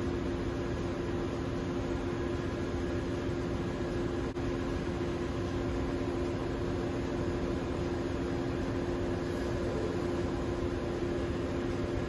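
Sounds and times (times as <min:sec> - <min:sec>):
engine-room machinery drone: 0:00.0 - 0:12.0.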